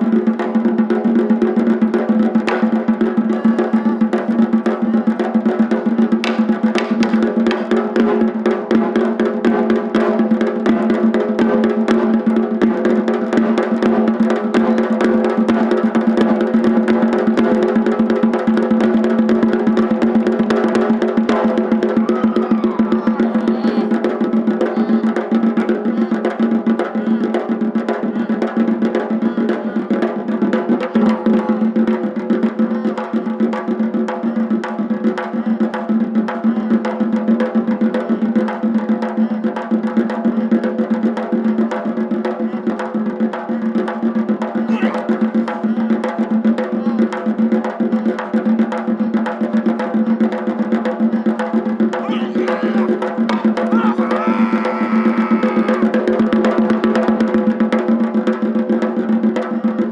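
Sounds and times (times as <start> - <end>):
taiko drums beaten rapidly: 0.0 - 59.8.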